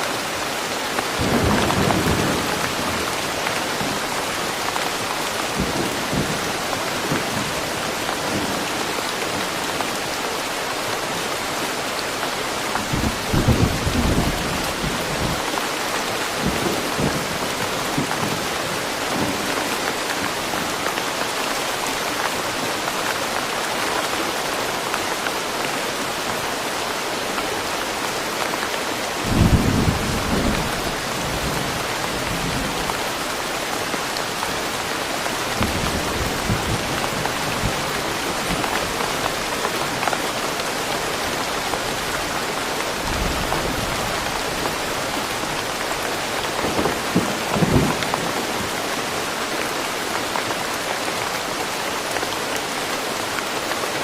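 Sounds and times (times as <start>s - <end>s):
heavy rain on forest: 0.0s - 54.0s.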